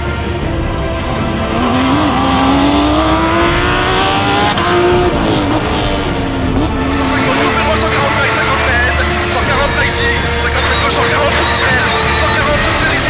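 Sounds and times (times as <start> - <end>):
rally car engine accelerating: 0.7 - 13.0.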